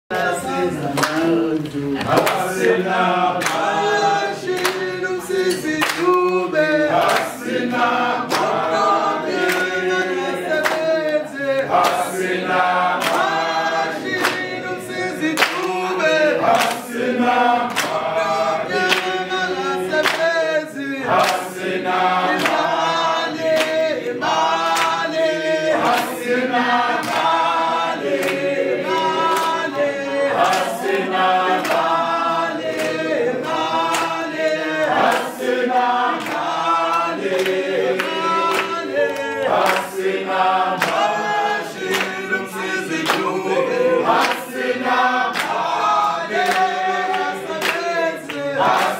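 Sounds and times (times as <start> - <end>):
group singing: 0.1 - 48.9
hand claps: 0.1 - 48.9.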